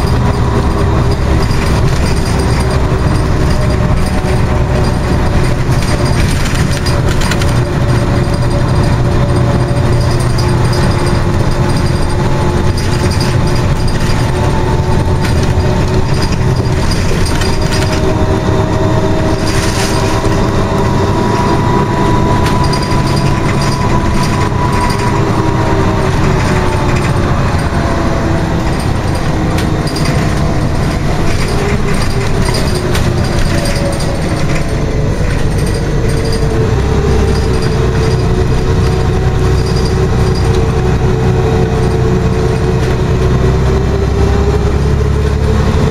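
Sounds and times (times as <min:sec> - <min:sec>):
bus engine and road rumble: 0:00.0 - 0:45.9
clicks and rattles from bus body: 0:00.0 - 0:45.9
drivetrain whine: 0:00.0 - 0:45.9.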